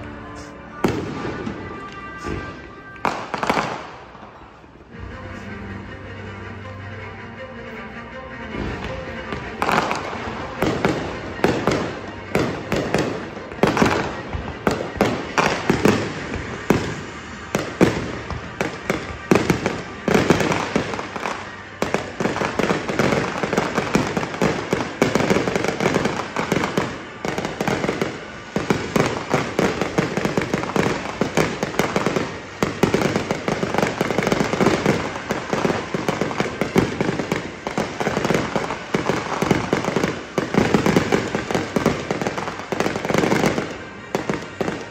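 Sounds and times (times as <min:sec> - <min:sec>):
fireworks bursting: 0:00.0 - 0:05.5, 0:08.5 - 0:44.9.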